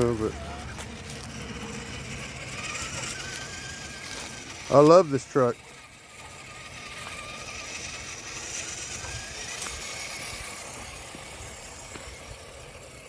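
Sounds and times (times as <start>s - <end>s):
rc truck motor whining: 0.0s - 13.0s.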